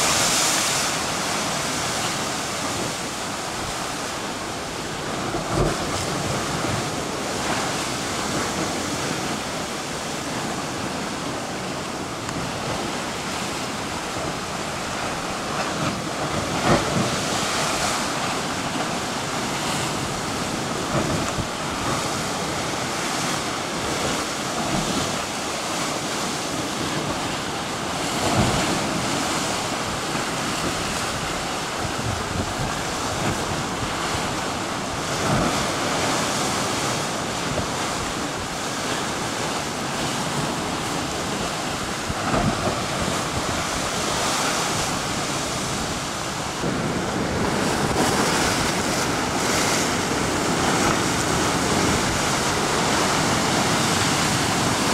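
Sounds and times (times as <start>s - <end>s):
ocean surf churning against rock: 0.0s - 54.9s.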